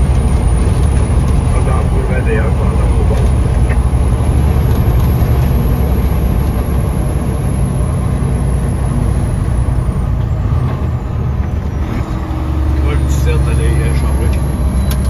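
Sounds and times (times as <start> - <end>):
truck diesel engine rumble: 0.0 - 15.0.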